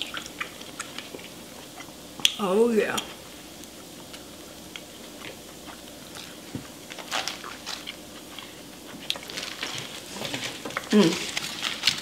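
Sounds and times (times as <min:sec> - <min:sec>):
person chewing food: 0:00.0 - 0:02.4, 0:03.0 - 0:12.0.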